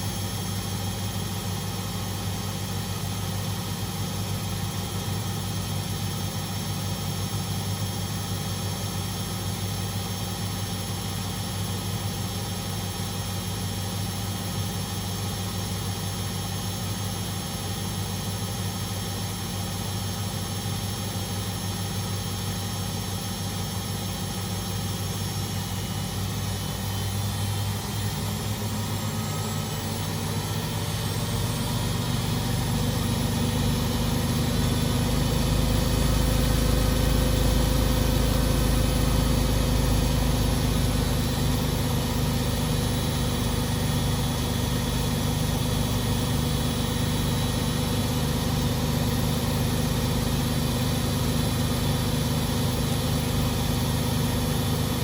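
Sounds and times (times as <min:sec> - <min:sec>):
washing machine running: 0:00.0 - 0:55.0.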